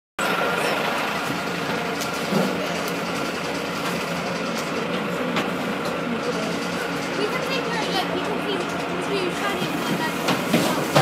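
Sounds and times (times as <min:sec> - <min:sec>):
diesel engine idling: 0:00.2 - 0:11.0.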